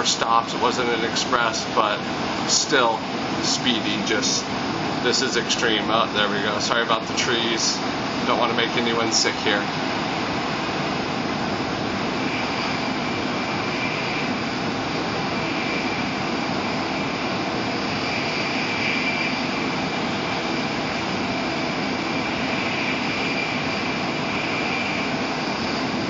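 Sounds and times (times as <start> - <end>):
faint high whine: 0.0 - 26.0.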